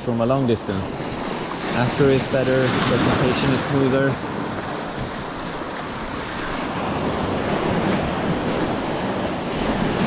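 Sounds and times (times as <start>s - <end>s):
sea waves breaking on boulders: 0.0s - 10.0s
wind buffeting microphone: 0.0s - 10.0s.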